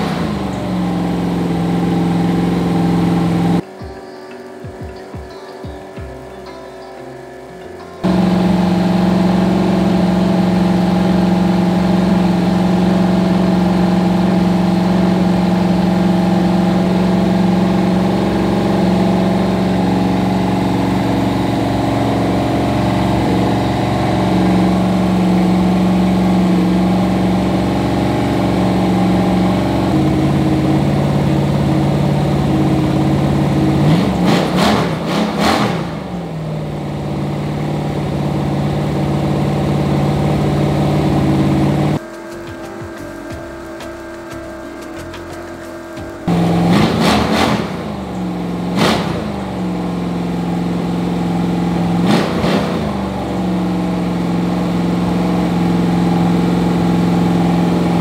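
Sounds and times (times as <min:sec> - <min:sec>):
engine running and revving: 0:00.0 - 0:03.6, 0:07.2 - 0:58.0.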